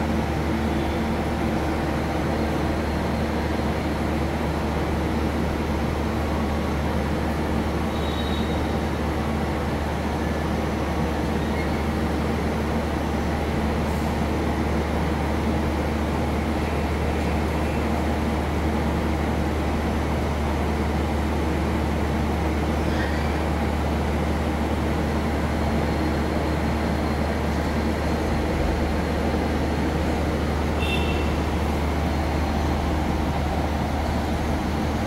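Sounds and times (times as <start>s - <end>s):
industrial machinery hum and rumble: 0.0s - 35.0s.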